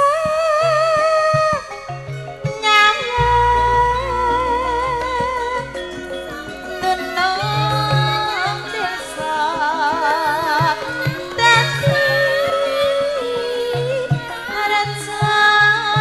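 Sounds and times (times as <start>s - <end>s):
woman singing with vibrato: 0.0s - 1.8s, 2.6s - 16.0s
drum strokes: 1.4s - 16.0s
ringing metallophone tones: 1.4s - 16.0s.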